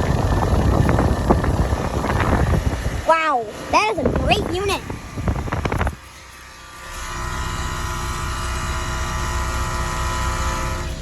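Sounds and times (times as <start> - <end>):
air conditioner fan and motor hum: 0.0 - 11.0.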